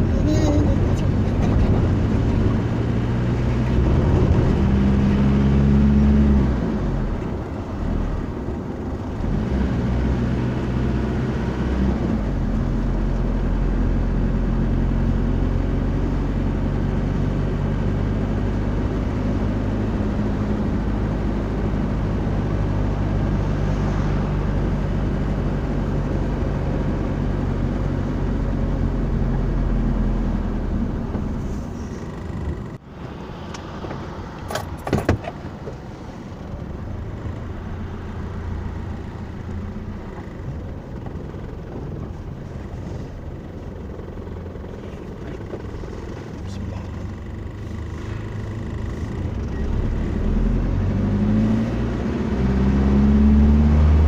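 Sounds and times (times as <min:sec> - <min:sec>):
road noise: 0:00.0 - 0:54.0
vehicle engine hum: 0:00.0 - 0:54.0.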